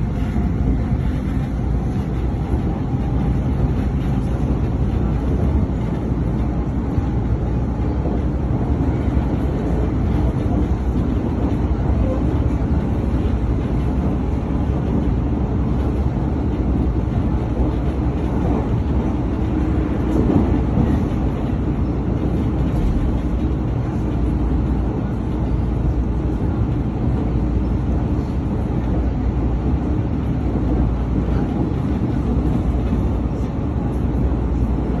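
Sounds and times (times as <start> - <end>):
train rumbling from inside carriage: 0.0 - 35.0.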